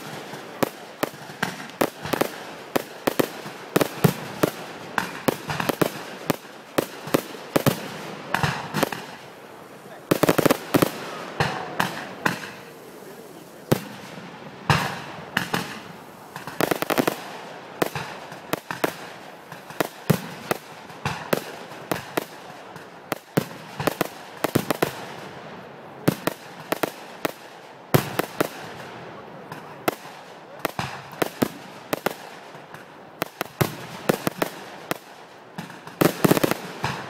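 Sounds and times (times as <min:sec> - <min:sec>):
fireworks bangs: 0:00.0 - 0:37.0.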